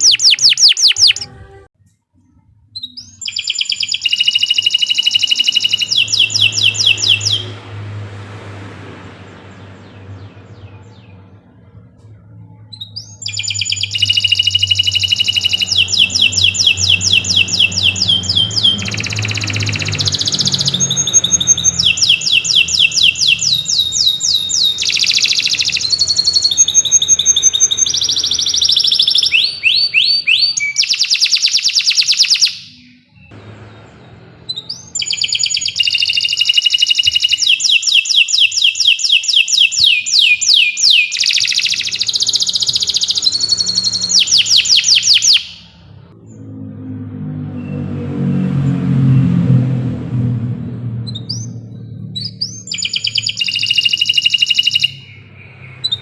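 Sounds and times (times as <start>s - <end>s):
canary singing trills: 0.0s - 1.6s, 2.4s - 46.8s, 51.0s - 56.0s.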